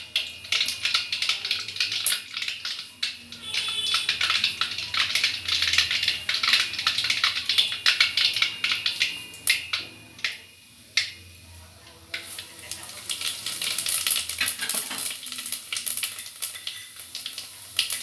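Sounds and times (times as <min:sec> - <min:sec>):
metal pot crackling and popping: 0:00.0 - 0:18.0.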